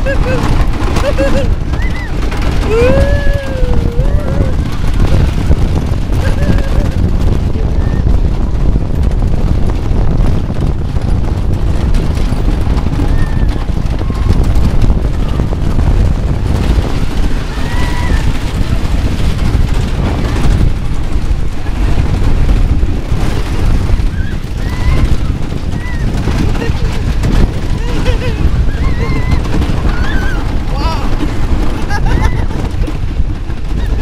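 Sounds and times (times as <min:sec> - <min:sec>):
roller coaster rumbling: 0:00.0 - 0:34.0
wind buffeting microphone: 0:00.0 - 0:34.0.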